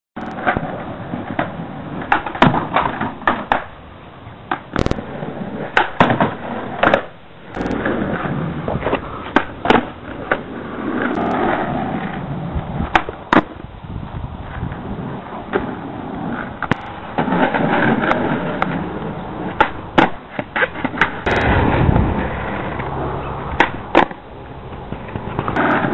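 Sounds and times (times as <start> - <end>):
skateboard wheels rolling on concrete: 0.2 - 25.9
skateboard clacking on pavement: 0.3 - 13.6, 14.4 - 21.5, 22.2 - 25.9.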